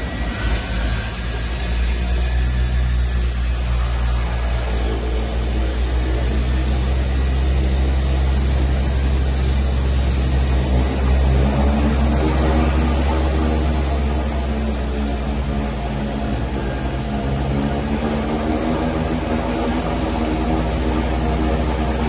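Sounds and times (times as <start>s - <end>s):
high turbine whine: 0.0s - 22.0s
propeller drone: 0.0s - 22.0s.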